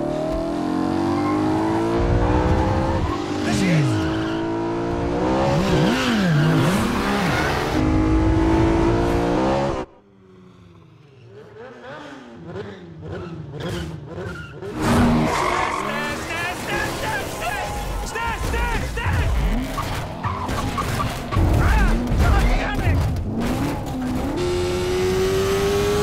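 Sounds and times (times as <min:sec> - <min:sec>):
motorcycle engines revving hard: 0:00.0 - 0:09.9, 0:11.2 - 0:26.0.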